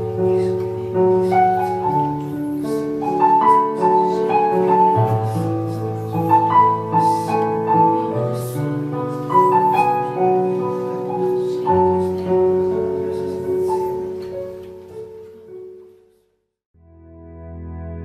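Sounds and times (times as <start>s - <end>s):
electronic keyboard piano melody: 0.0s - 16.0s.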